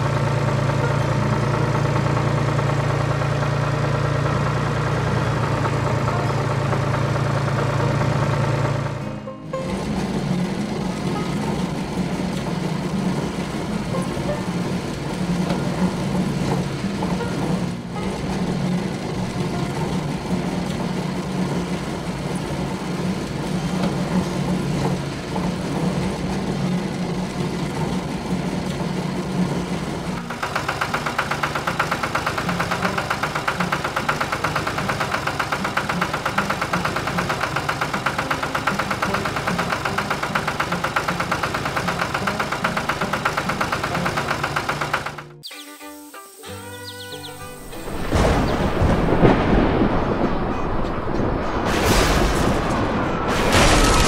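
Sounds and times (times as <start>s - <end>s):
truck engine pulsing: 0.0s - 45.7s, 46.5s - 54.0s.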